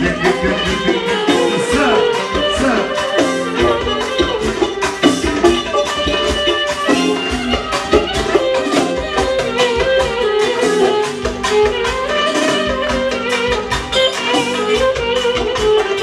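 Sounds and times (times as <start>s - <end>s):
instrumental dance music: 0.0s - 16.0s.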